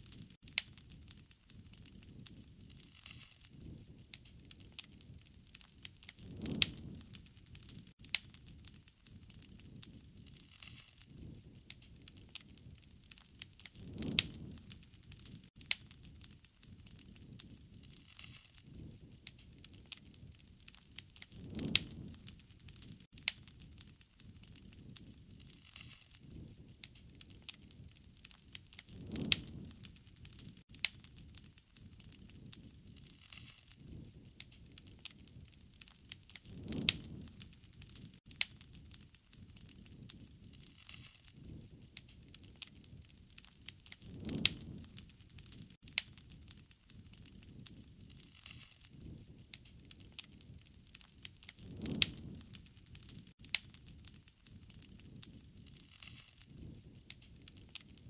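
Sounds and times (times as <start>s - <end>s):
whoosh of flame: 0.0s - 58.0s
wood fire crackling: 0.0s - 58.0s.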